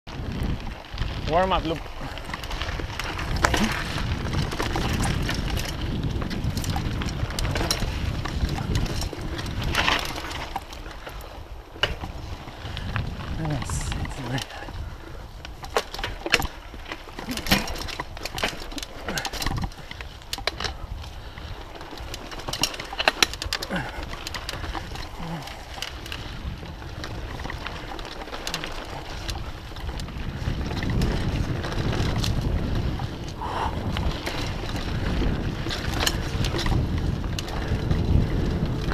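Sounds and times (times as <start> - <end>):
bike clicks and rattles: 0.1 - 38.9
bike tyres rumbling on dirt: 0.1 - 38.9
wind on microphone: 0.1 - 38.9.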